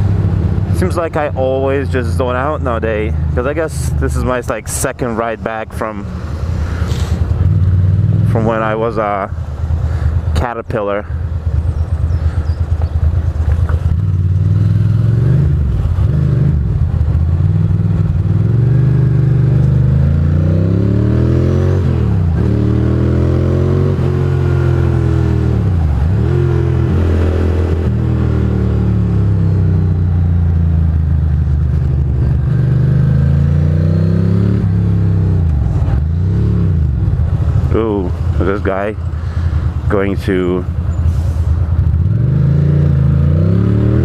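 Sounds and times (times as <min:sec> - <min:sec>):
motorcycle engine accelerating: 0:06.1 - 0:10.3, 0:11.2 - 0:44.0.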